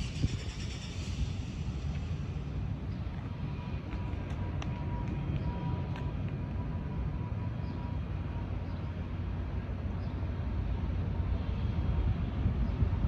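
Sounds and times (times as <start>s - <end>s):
jet aircraft rumble: 0.0s - 10.6s.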